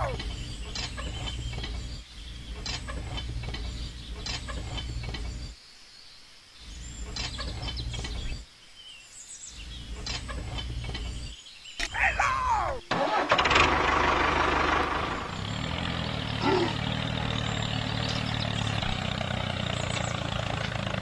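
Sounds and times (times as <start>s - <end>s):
birds chirping: 0.0s - 12.9s, 14.6s - 21.0s.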